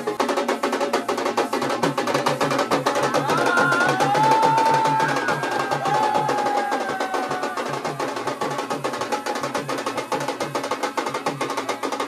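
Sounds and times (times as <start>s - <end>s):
fast even drumming: 0.0s - 12.0s.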